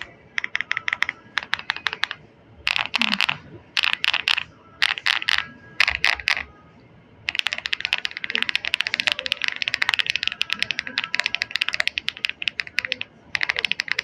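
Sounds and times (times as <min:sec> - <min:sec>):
mechanical keyboard typing: 0:00.0 - 0:06.5, 0:07.3 - 0:14.0.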